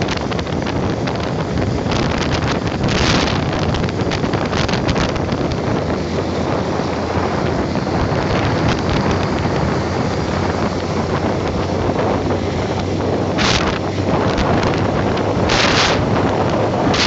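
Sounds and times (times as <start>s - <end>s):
low hum: 0.0s - 17.0s
wind rushing over microphone: 0.0s - 17.0s.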